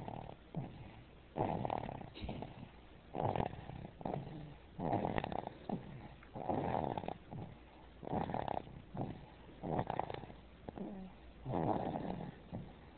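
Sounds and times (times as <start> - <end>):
baby snoring: 0.0 - 12.8.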